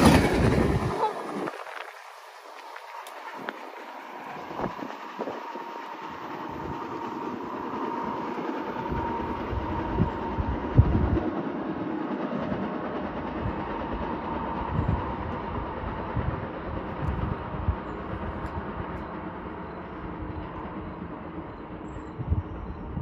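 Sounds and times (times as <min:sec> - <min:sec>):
distant train rumble: 0:00.0 - 0:23.0
high whine: 0:00.0 - 0:23.0.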